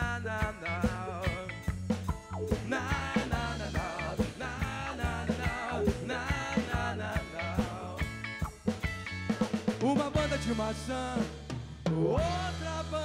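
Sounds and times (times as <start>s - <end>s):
person singing: 0.0s - 1.6s, 2.5s - 8.3s, 9.8s - 13.0s
electric guitar: 0.0s - 11.4s
bass guitar: 0.0s - 13.0s
drum kit beats: 0.0s - 13.0s.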